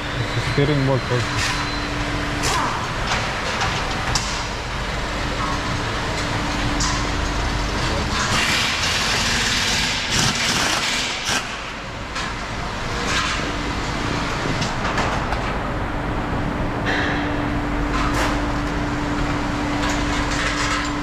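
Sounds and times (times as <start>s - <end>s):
low workshop hum: 0.0s - 21.0s.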